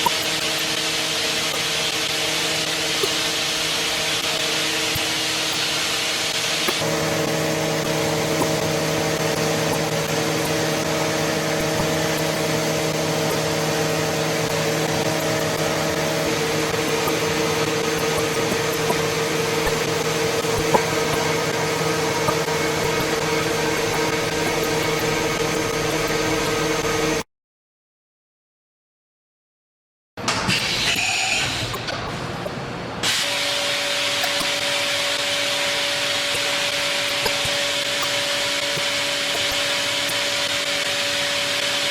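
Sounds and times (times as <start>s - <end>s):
machining spindle whine: 0.0s - 27.2s, 30.3s - 41.9s.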